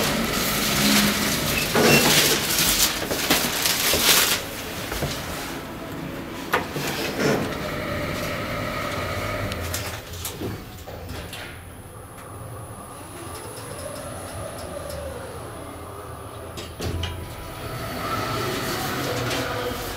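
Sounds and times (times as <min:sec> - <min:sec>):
elevator humming: 0:00.0 - 0:19.9.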